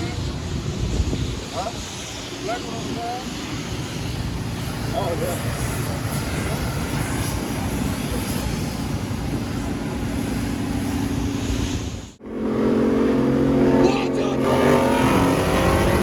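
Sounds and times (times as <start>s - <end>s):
car engines rumbling: 0.0s - 16.0s
engine droning: 0.0s - 16.0s.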